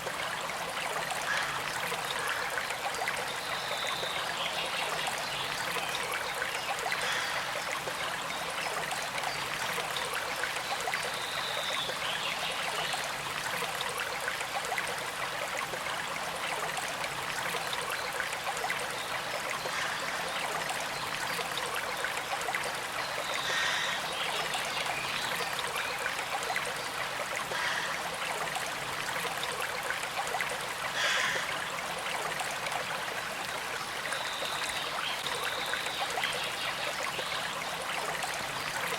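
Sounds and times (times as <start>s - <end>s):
creek trickling: 0.0s - 38.9s
water gurgles: 0.0s - 38.9s.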